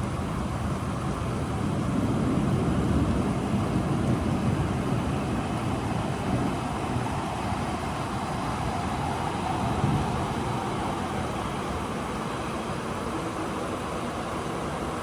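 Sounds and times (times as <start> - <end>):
storm rain: 0.0 - 15.0.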